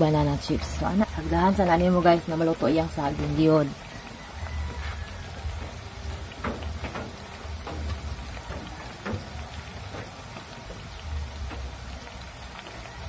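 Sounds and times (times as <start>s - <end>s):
oil sizzling with pops: 0.0s - 13.0s.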